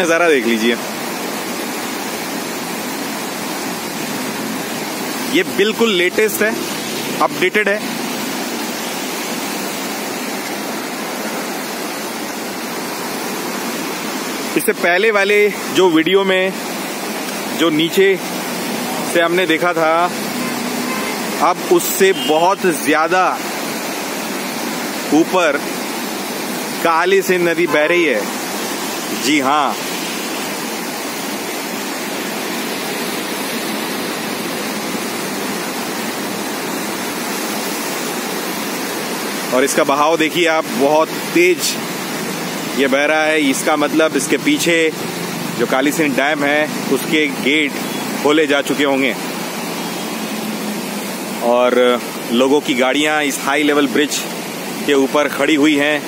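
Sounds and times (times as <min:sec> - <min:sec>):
floodwater rushing: 0:00.0 - 0:56.0.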